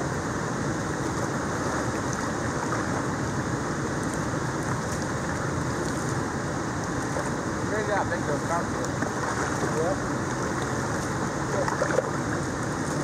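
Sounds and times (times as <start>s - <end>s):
water rushing through spillway: 0.0s - 13.0s.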